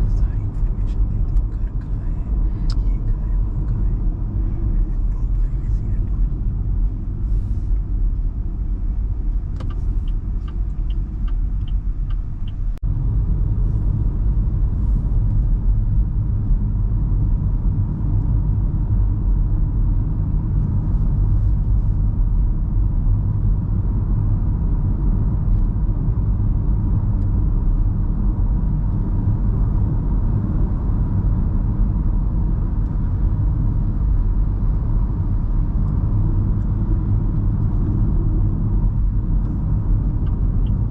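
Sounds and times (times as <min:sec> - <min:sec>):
car cabin road rumble: 0:00.0 - 0:40.9.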